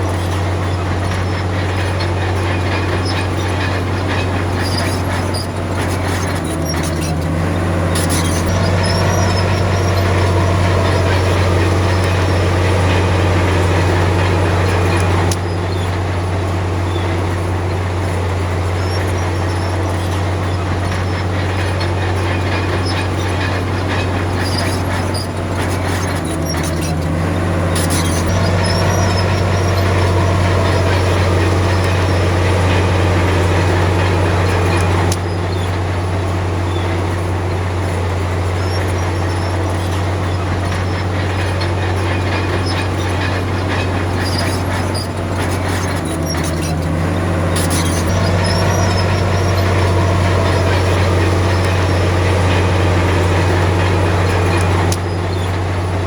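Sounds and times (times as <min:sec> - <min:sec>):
metallic clanks: 0:00.0 - 0:16.1, 0:18.0 - 0:56.0
bulldozer diesel engine under load: 0:00.0 - 0:56.0.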